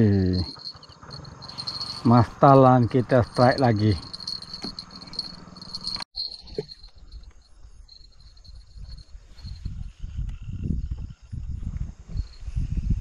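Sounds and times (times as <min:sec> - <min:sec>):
night insects chirping: 0:00.0 - 0:13.0.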